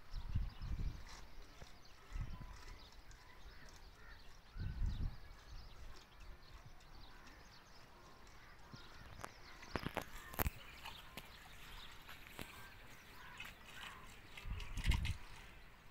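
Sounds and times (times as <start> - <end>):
faint outdoor ambience: 0.0 - 15.9.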